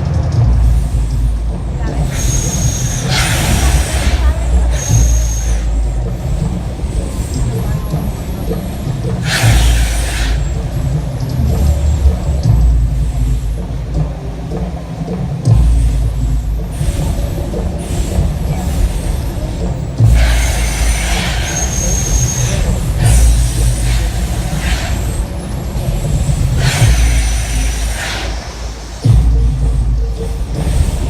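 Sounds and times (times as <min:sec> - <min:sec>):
deep rumbling: 0:00.0 - 0:31.0
bursts of hissing: 0:00.6 - 0:31.0.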